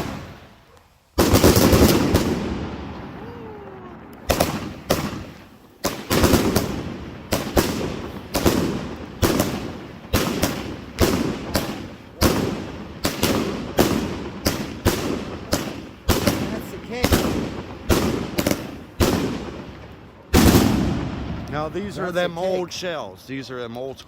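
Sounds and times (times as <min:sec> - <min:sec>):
firework bangs: 0:00.0 - 0:00.6, 0:01.2 - 0:22.4.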